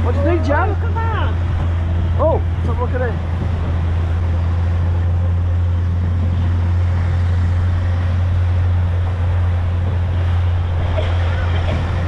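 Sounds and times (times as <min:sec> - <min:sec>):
motorboat engine drone: 0:00.0 - 0:12.0
water rushing: 0:00.0 - 0:12.0
wind: 0:00.0 - 0:12.0.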